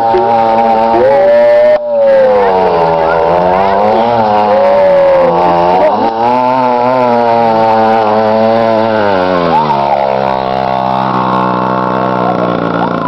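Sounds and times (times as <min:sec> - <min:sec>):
quad bike engine passing: 0:00.0 - 0:13.0.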